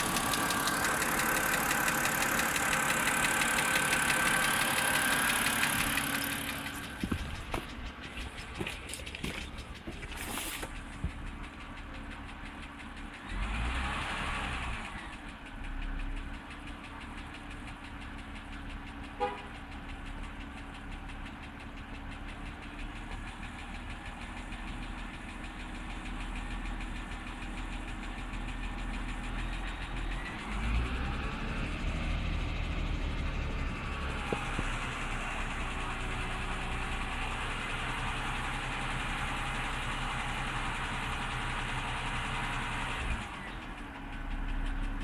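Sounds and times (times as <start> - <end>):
car engine running: 0.0 - 45.0
rapid engine ticking: 0.0 - 45.0.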